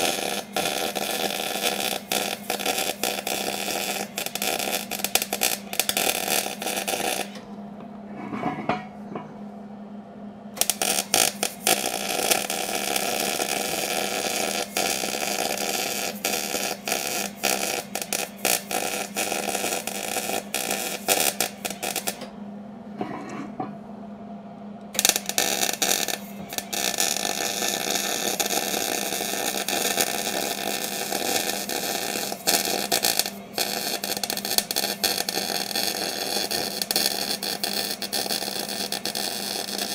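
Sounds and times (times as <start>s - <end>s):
welder arc crackling: 0.0s - 7.4s, 10.6s - 22.3s, 24.9s - 39.9s.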